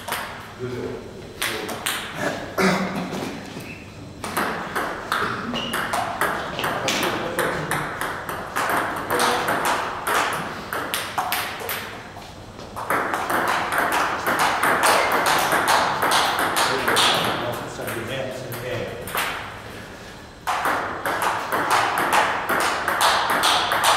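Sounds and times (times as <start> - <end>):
noisy background: 0.0 - 23.9.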